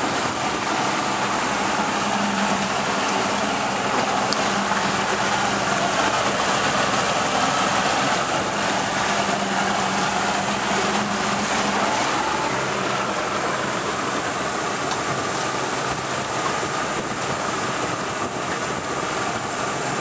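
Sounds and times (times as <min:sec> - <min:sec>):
boat motor humming: 0:00.0 - 0:20.0
constant rushing noise: 0:00.0 - 0:20.0.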